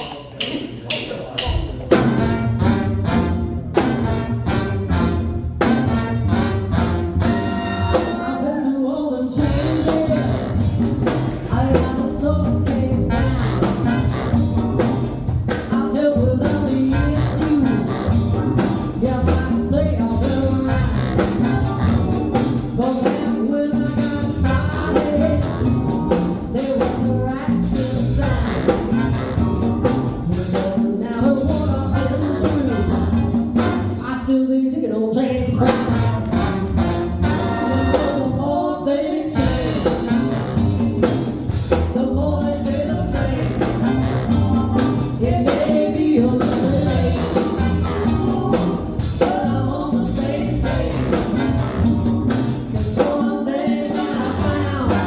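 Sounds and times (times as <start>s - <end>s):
band playing a song: 0.0s - 34.4s, 35.4s - 55.0s
person singing: 7.8s - 55.0s.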